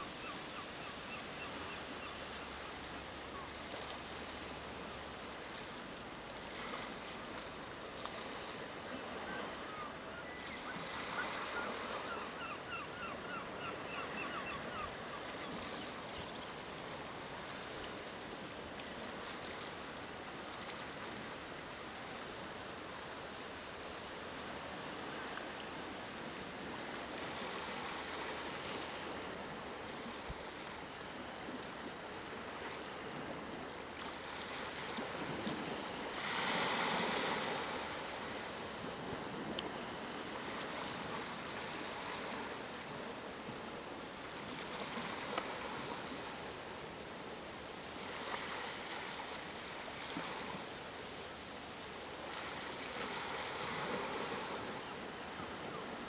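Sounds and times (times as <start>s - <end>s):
small waves washing on shore: 0.0s - 56.0s
wind: 0.0s - 56.0s.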